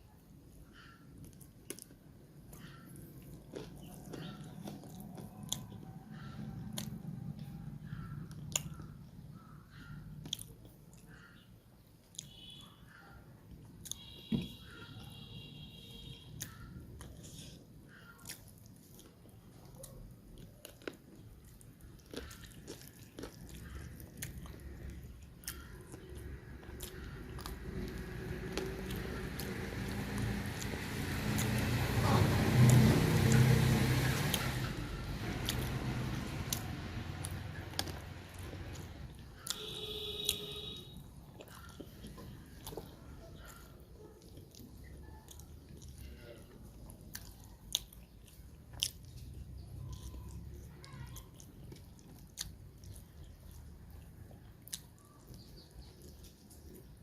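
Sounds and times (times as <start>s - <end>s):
person chewing and biting food: 1.2s - 9.1s, 9.8s - 11.3s, 13.6s - 14.8s, 16.3s - 31.8s, 35.4s - 56.5s.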